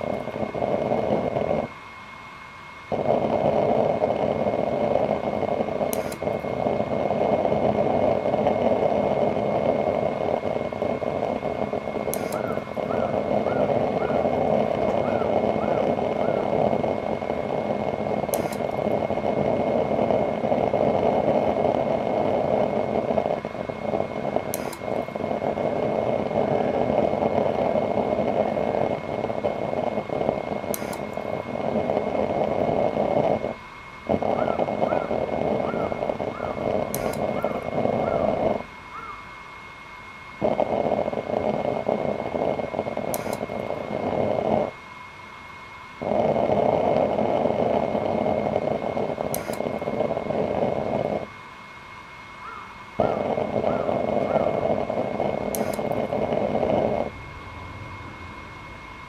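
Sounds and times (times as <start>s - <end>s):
high whine: 0.0s - 59.0s
oil burner flame roaring: 0.0s - 59.0s.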